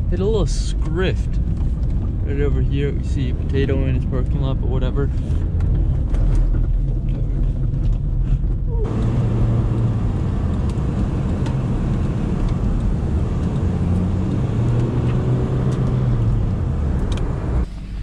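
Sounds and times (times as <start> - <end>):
car engine drone: 0.0 - 18.0
road noise: 0.0 - 18.0.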